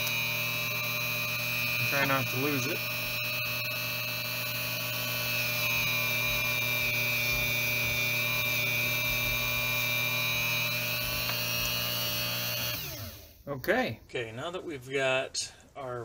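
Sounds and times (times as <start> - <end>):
rotary tool motor whine: 0.0 - 13.4.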